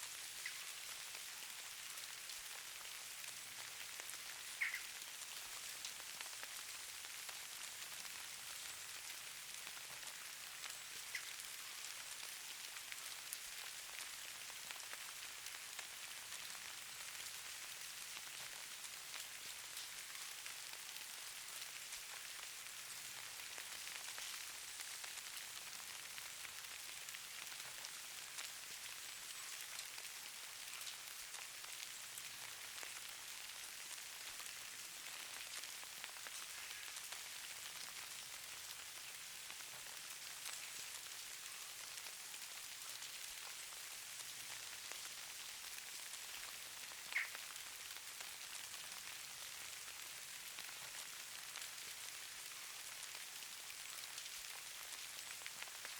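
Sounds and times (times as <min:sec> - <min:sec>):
light rain pattering: 0:00.0 - 0:55.9.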